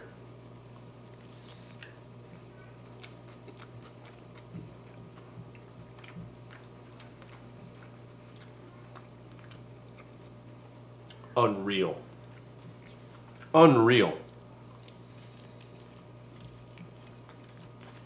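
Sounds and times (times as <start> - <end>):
steady low hum: 0.0 - 18.0
person chewing food: 0.6 - 11.4, 12.1 - 13.6, 14.2 - 18.0.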